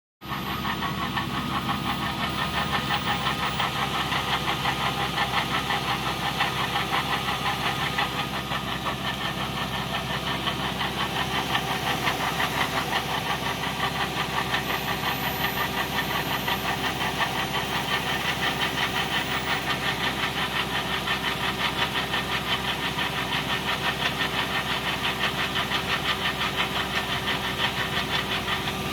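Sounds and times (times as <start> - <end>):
engine idling: 0.2 - 28.9
rapid knocking from belt drive: 0.2 - 28.9.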